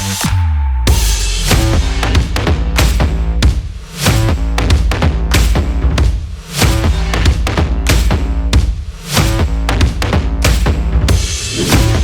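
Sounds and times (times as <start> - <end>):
music with heavy drum beat: 0.0 - 12.0.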